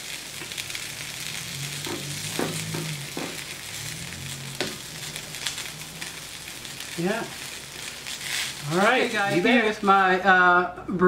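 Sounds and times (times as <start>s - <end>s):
tacos sizzling on griddle: 0.0s - 10.6s.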